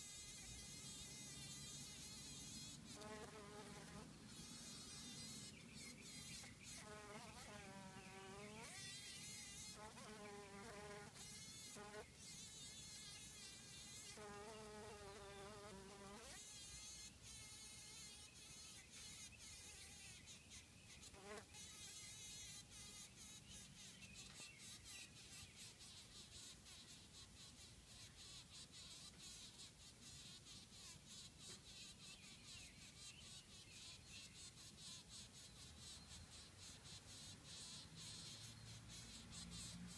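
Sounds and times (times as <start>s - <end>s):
bee buzzing in bursts: 0.0s - 39.9s.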